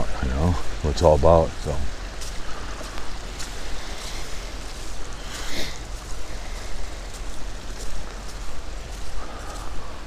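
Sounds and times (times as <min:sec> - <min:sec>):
flowing creek: 0:00.0 - 0:10.0.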